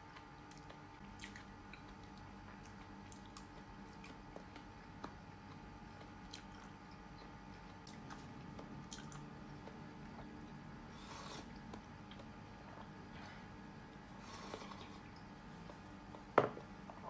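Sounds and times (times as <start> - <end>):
person chewing: 0.1 - 16.4.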